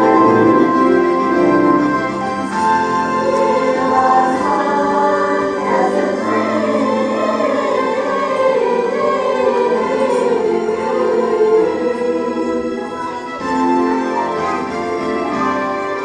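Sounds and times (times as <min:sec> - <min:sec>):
choir singing: 0:00.0 - 0:16.0
instrumental accompaniment: 0:00.0 - 0:16.0.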